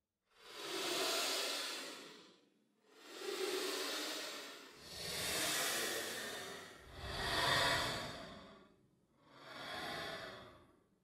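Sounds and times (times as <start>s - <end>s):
ghostly breathy sighs: 0.4s - 11.0s.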